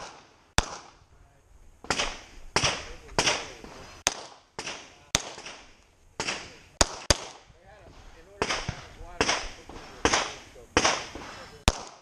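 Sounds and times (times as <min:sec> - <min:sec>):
pistol shots: 0:00.0 - 0:01.0, 0:01.8 - 0:07.5, 0:08.4 - 0:12.0.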